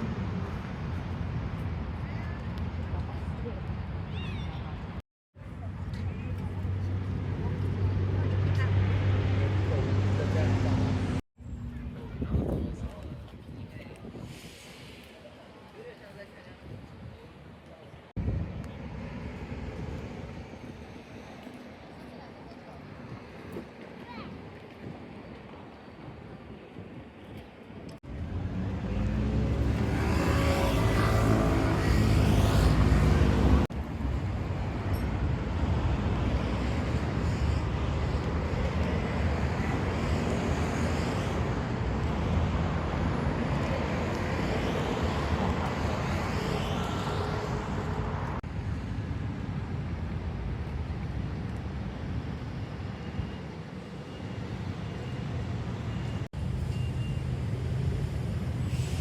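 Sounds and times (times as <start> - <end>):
city traffic rumble: 0.0 - 59.0.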